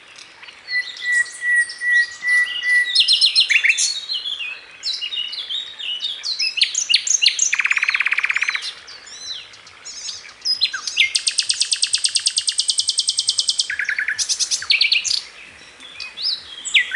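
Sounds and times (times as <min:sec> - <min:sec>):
bird whistles and chirps: 0:00.6 - 0:05.6, 0:06.3 - 0:15.2, 0:15.8 - 0:16.9.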